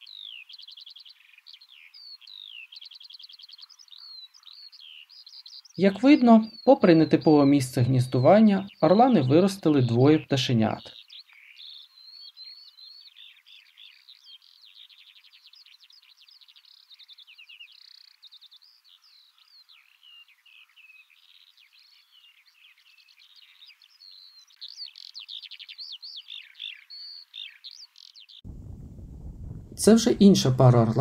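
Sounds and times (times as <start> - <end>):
songbirds chirping and trilling: 0.0 - 28.5.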